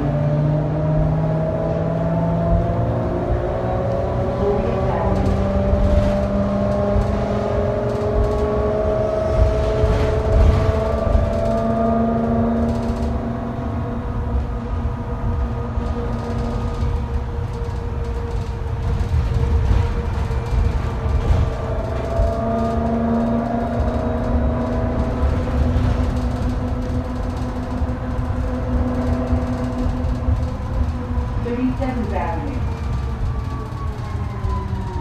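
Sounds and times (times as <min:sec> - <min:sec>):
bus road rumble: 0:00.0 - 0:35.0.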